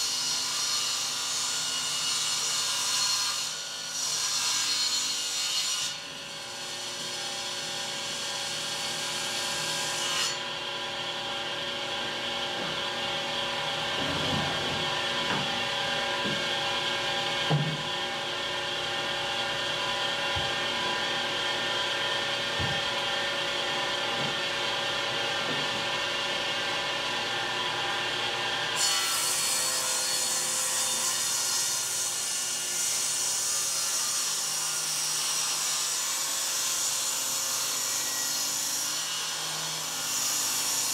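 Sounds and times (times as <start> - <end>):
table saw cutting wood: 0.0 - 40.9.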